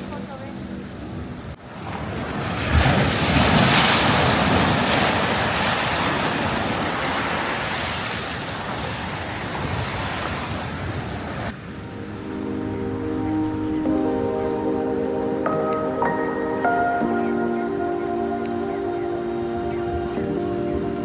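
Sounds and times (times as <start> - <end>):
ocean wave breaking: 0.0 - 21.0.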